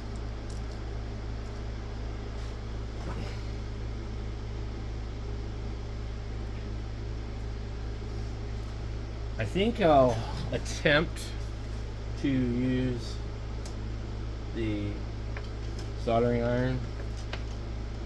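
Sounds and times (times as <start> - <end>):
equipment humming: 0.0 - 18.0.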